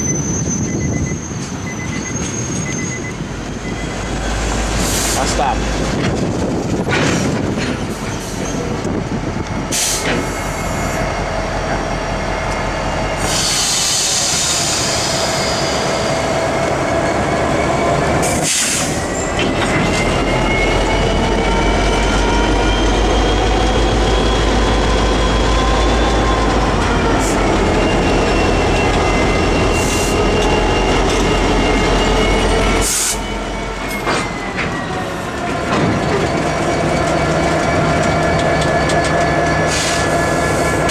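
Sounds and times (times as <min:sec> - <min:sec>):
train wheels squealing: 0:00.0 - 0:05.6, 0:07.8 - 0:08.8, 0:09.5 - 0:40.9
diesel locomotive engine rumble: 0:00.0 - 0:40.9.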